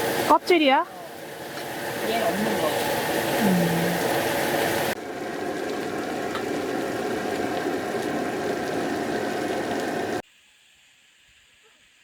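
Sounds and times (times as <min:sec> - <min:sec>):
meat sizzling on a griddle: 0:00.0 - 0:10.2.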